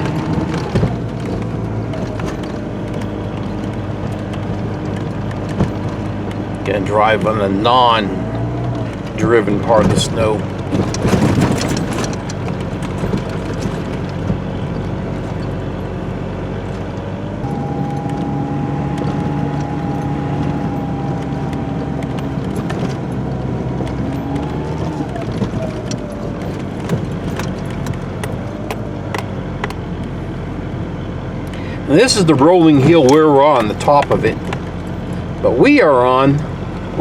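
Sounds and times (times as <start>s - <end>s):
truck engine: 0.0s - 37.0s.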